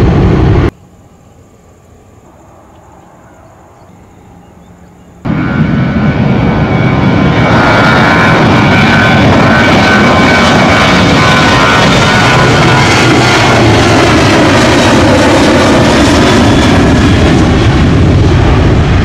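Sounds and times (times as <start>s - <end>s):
jet engines at high thrust: 0.0s - 19.0s.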